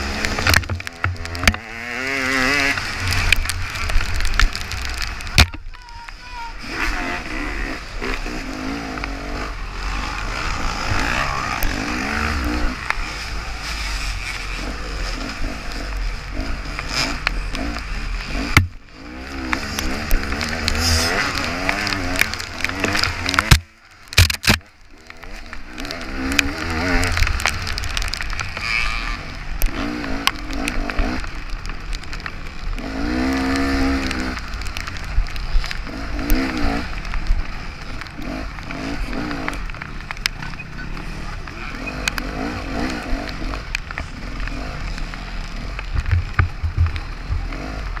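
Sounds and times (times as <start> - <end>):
dirt bike engine revving: 0.0 - 5.6, 6.4 - 48.0.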